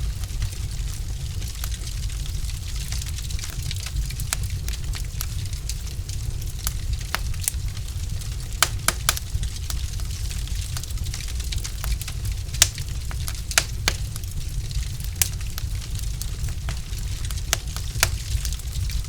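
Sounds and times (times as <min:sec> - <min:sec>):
fire crackling and popping: 0:00.0 - 0:19.0
low rumble of fire: 0:00.0 - 0:19.0.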